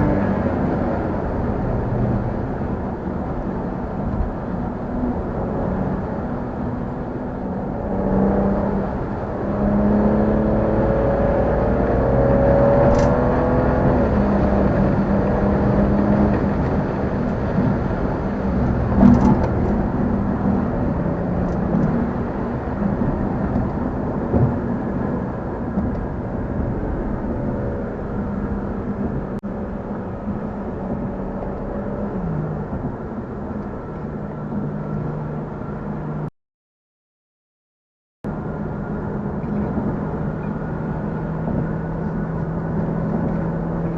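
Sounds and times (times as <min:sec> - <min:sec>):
car engine accelerating: 0:00.0 - 0:36.3, 0:38.3 - 0:43.9.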